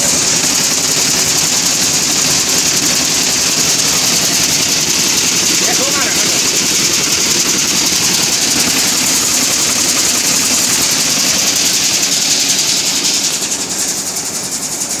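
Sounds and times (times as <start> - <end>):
chopping machine rattle and hiss: 0.0 - 15.0.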